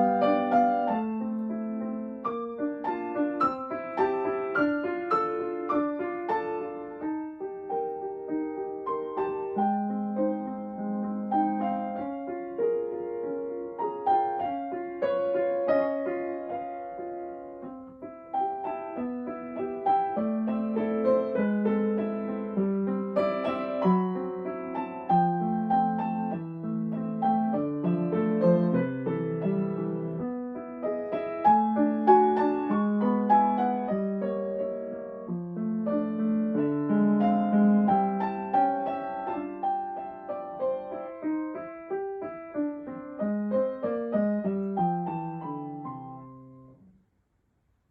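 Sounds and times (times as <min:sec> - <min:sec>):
solo piano melody: 0:00.0 - 0:47.9.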